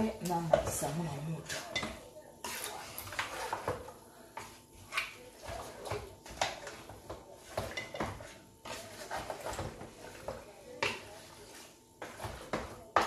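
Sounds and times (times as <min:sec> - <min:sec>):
wooden spoon scraping metal pot: 0:00.0 - 0:13.0.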